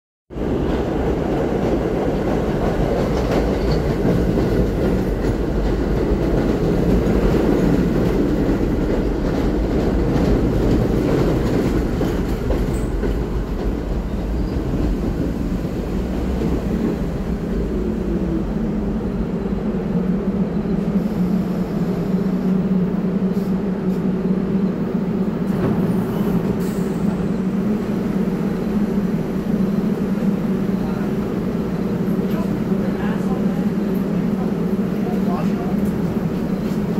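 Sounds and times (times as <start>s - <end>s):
standing train hum: 0.3s - 36.9s
train wheels rumbling on rails: 0.3s - 36.9s.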